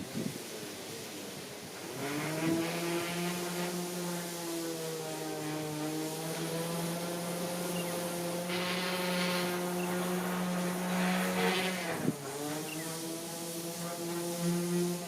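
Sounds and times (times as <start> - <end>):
rushing hiss: 0.0 - 15.0.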